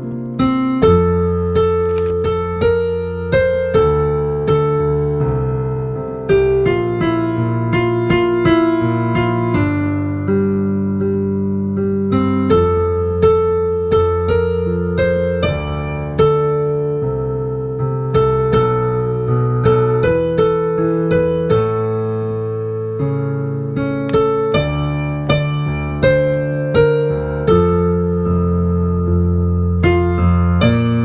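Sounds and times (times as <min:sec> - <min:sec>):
solo piano playing: 0:00.0 - 0:31.0.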